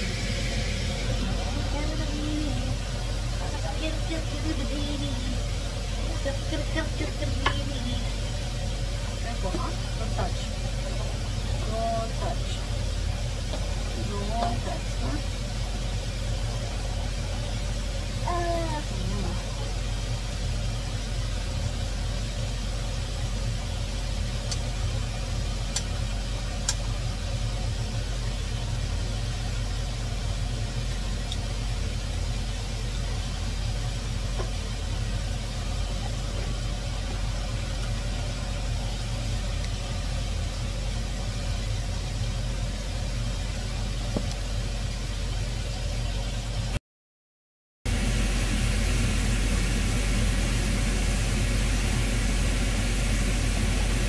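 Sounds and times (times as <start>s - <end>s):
machine hum with hiss: 0.0s - 46.8s, 47.9s - 54.0s.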